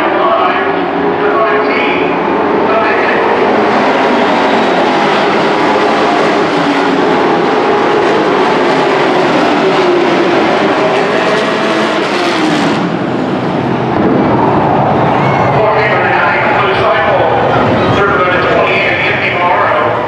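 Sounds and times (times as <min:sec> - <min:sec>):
race truck engines at speed: 0:00.0 - 0:20.0.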